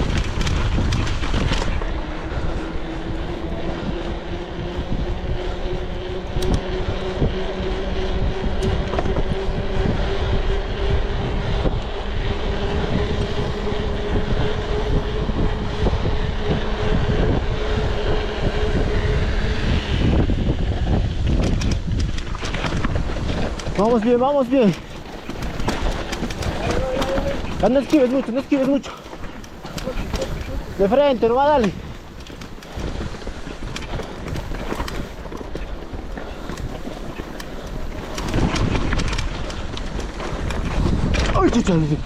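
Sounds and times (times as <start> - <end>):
bike tyres and frame rattling: 0.0 - 42.0
wind on microphone: 0.0 - 42.0.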